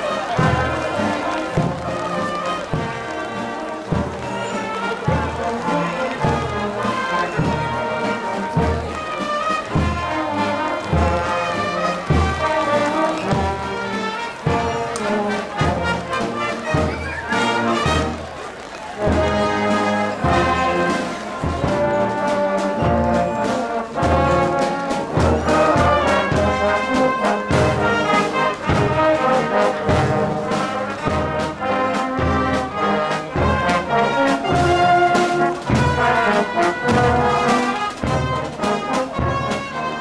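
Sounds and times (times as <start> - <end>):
marching brass band playing: 0.0 - 40.0.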